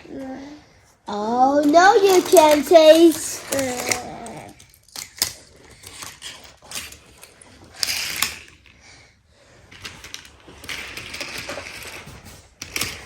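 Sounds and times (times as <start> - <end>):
toy parts clicking and rattling: 1.1 - 8.8, 9.7 - 13.0.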